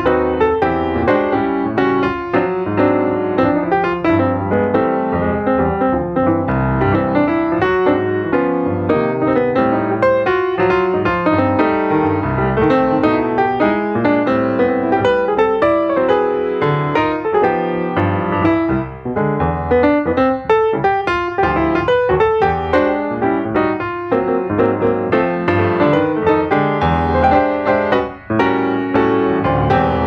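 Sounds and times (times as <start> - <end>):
piano music with quick notes: 0.0 - 30.0.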